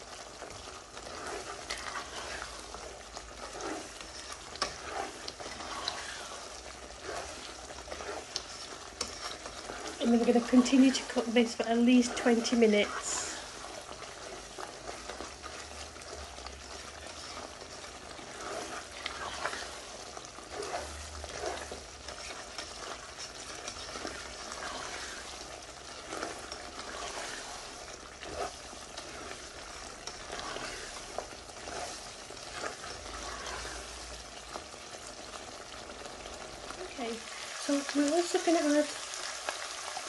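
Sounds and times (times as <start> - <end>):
spoon scraping a pan: 0.0 - 34.8
meat sizzling in oil: 0.0 - 40.0.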